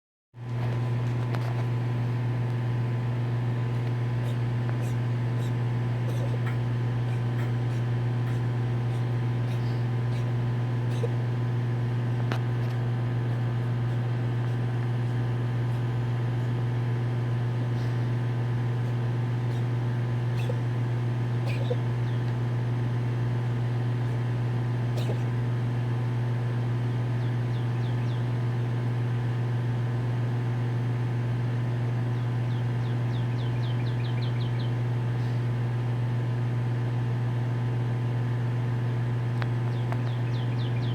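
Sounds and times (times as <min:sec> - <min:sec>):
low machine hum: 0:00.4 - 0:40.9.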